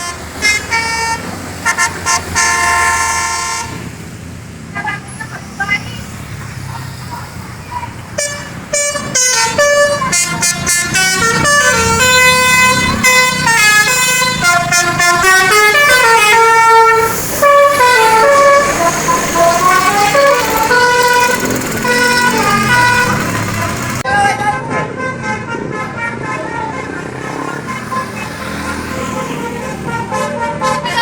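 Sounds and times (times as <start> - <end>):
musical bus horn playing tune: 0.0 - 4.0, 8.2 - 31.0.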